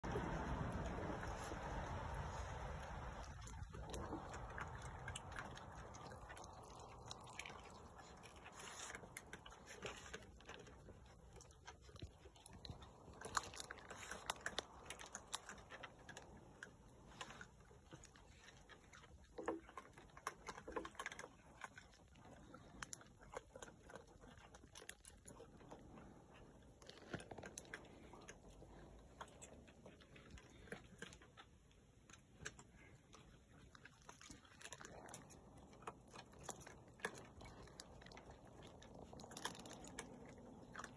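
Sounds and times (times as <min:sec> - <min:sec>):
animals chewing clicks: 0:00.0 - 0:40.9.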